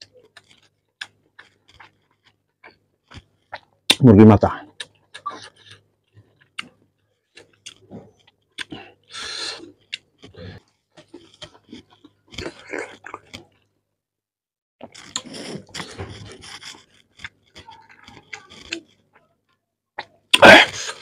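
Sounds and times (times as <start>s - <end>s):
wet chewing and mouth clicks: 0.0s - 4.0s, 4.6s - 13.7s, 14.8s - 21.0s.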